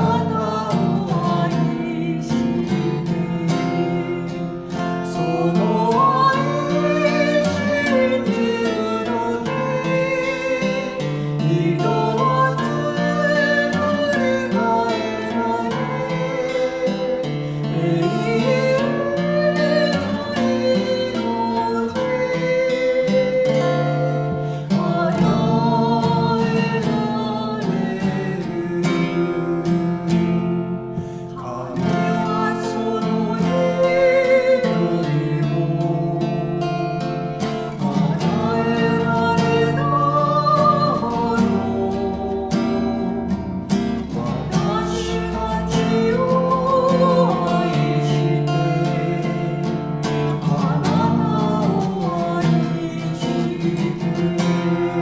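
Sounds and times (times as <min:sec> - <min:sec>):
man singing worship song: 0:00.0 - 0:30.4, 0:31.0 - 0:43.2, 0:44.0 - 0:55.0
acoustic guitar: 0:00.0 - 0:55.0.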